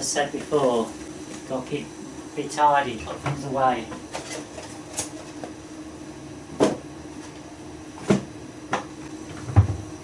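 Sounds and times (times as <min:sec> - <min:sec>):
extractor fan hum: 0:00.0 - 0:10.0.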